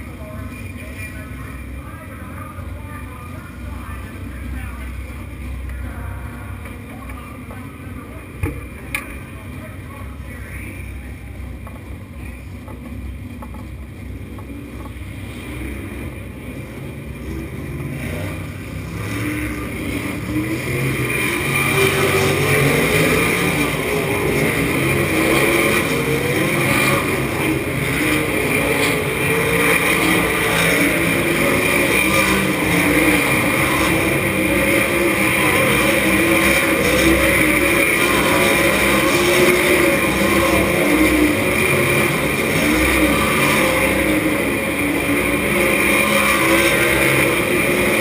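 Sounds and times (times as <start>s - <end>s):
race car engine: 0.0s - 48.0s.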